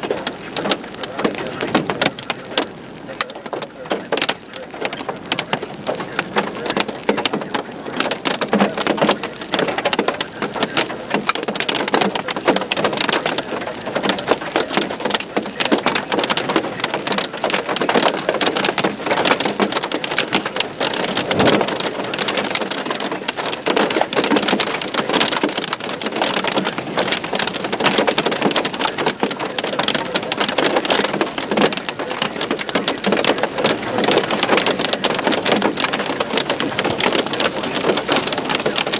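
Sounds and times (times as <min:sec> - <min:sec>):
hailstones pelting down: 0:00.0 - 0:38.9.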